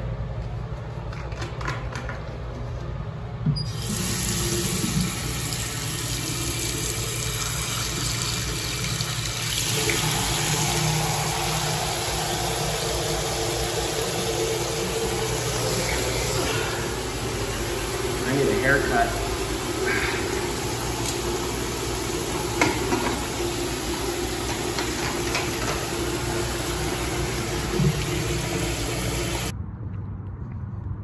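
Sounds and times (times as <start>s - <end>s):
water running from a tap: 3.7s - 29.5s.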